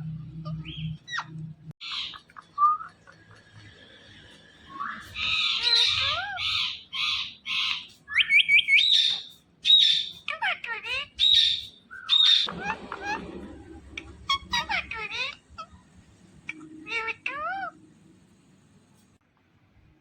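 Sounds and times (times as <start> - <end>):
parakeet chirping and squawking: 0.2 - 17.9.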